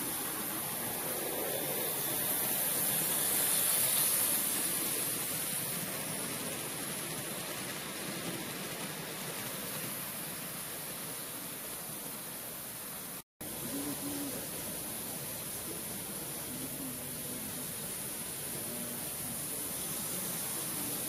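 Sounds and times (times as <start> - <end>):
model train wheels on rail: 0.0 - 21.0.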